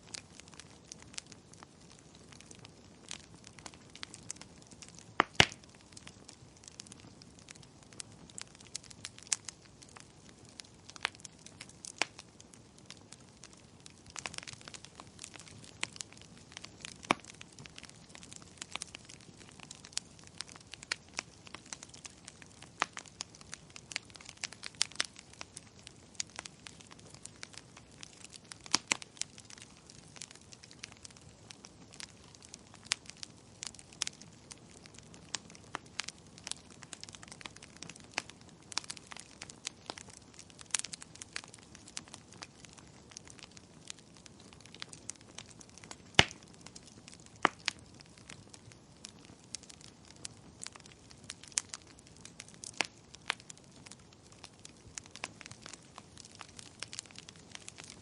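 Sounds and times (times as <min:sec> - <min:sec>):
soft steady fire hiss: 0:00.0 - 0:58.0
wood fire popping and snapping: 0:00.0 - 0:58.0.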